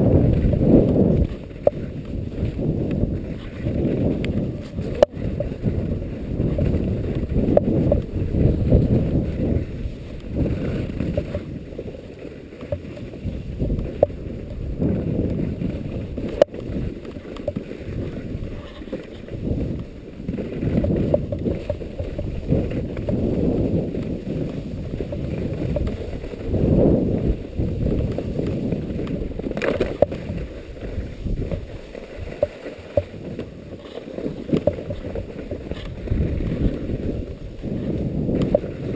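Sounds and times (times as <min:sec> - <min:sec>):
gusty wind buffeting microphone: 0:00.0 - 0:38.9.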